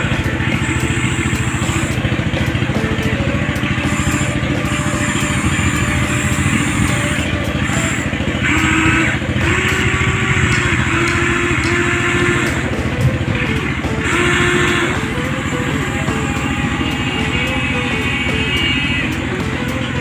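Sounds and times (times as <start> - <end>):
toy excavator motors whirring: 0.0 - 20.0.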